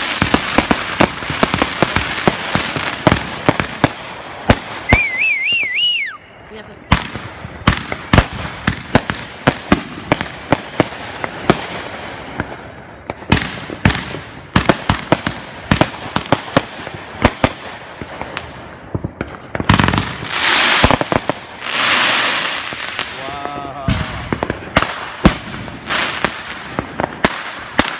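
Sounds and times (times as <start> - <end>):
firework bangs and pops: 0.0 - 6.1, 6.9 - 27.9
loud hissing crackle: 0.0 - 27.9.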